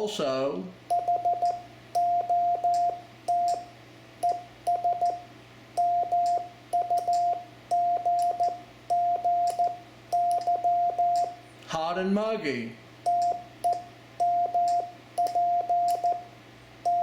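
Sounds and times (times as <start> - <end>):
morse code tone: 0.9 - 11.4, 13.1 - 17.0.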